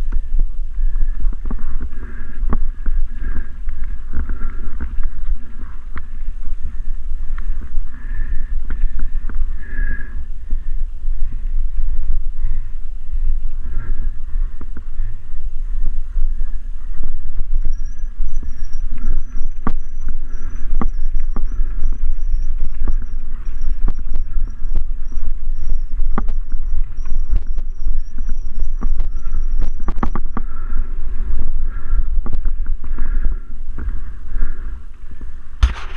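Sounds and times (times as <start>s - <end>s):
wind rumble on microphone: 0.0s - 35.9s.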